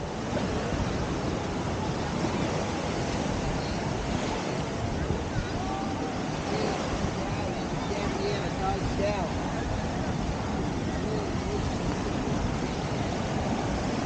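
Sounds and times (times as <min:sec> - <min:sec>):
small surf breaking on sand: 0:00.0 - 0:14.0
wind on microphone: 0:00.0 - 0:14.0.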